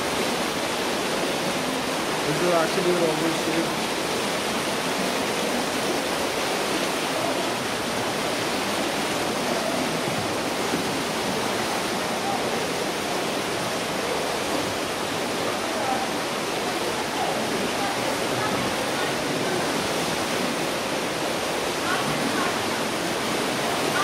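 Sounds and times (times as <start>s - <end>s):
stream rushing through rocks: 0.0s - 24.0s.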